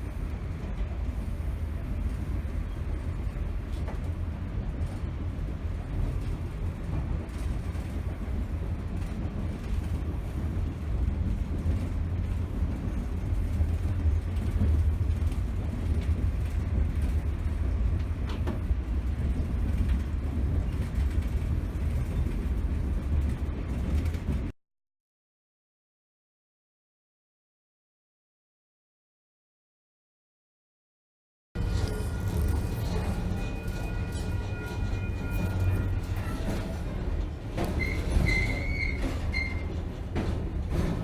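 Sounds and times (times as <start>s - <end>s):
passenger train rumbling: 0.0s - 24.5s, 31.6s - 41.0s.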